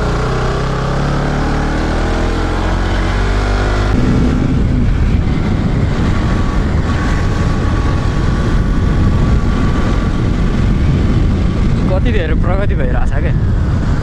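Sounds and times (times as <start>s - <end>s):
motorcycle engine hum: 0.0s - 14.0s
wind and road noise: 0.0s - 14.0s.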